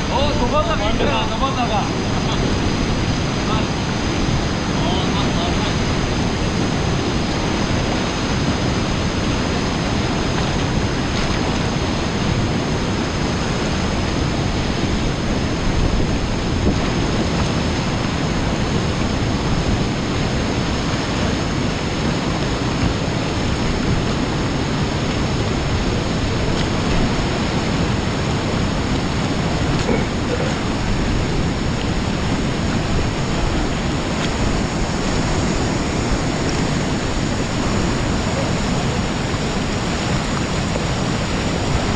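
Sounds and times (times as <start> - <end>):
river rapid rushing: 0.0 - 41.9.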